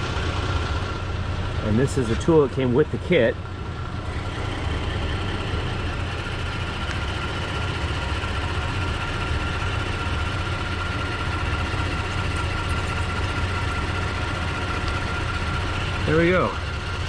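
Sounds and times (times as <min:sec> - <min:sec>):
motor humming and whining: 0:02.0 - 0:17.0.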